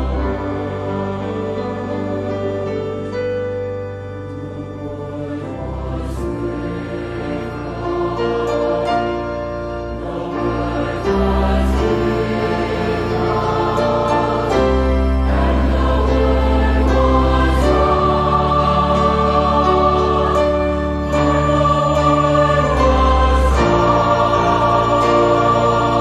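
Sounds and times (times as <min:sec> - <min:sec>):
mixed choir singing: 0:00.0 - 0:26.0.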